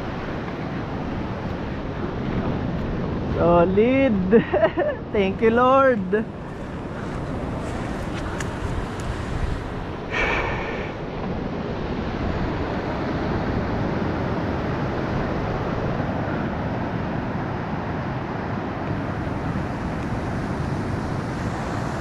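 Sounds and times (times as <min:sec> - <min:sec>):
surf washing: 0:00.0 - 0:22.0
wind rumbling on microphone: 0:00.0 - 0:22.0.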